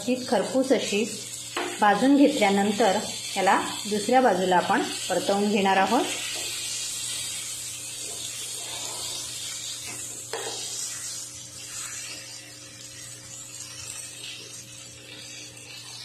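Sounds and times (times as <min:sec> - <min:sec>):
oil sizzling: 0:00.0 - 0:16.0.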